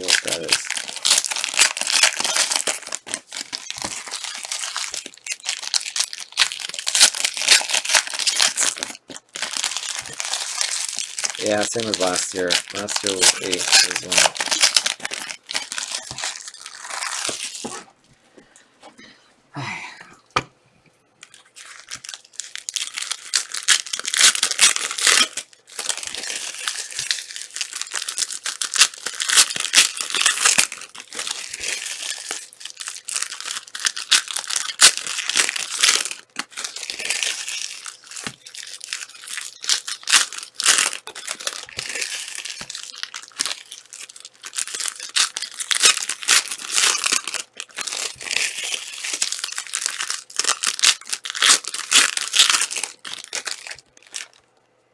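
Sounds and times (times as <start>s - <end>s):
plastic wrappers tearing and crinkling: 0.0s - 18.0s, 21.2s - 54.6s.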